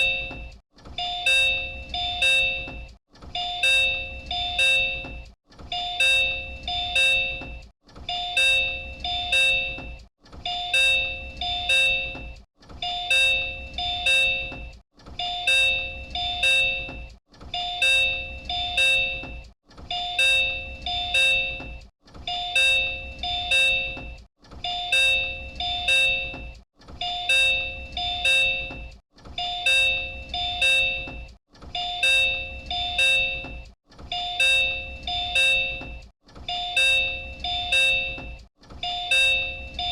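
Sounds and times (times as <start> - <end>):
electronic door chime: 0.0 - 39.9.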